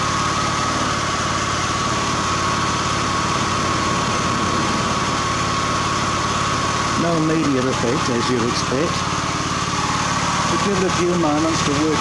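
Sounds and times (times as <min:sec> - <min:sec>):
high whine: 0:00.0 - 0:12.0
small generator engine running: 0:00.0 - 0:12.0.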